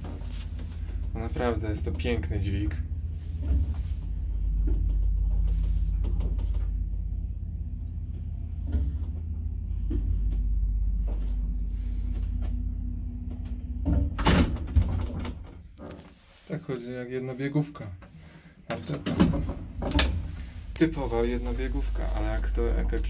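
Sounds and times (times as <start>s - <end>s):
lift low rumble: 0.0s - 23.0s.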